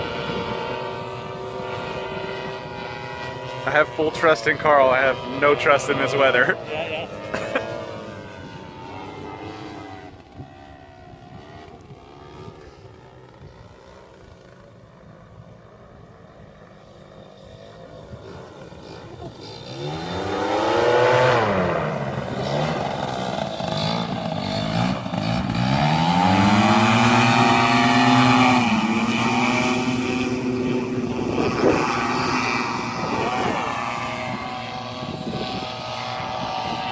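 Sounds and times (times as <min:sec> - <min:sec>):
paramotor engine flying by: 0:00.0 - 0:36.9.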